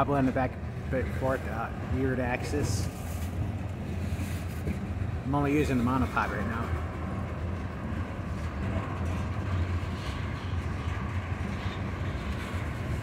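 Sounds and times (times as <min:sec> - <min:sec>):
freight cars rumbling on rails: 0:00.0 - 0:13.0.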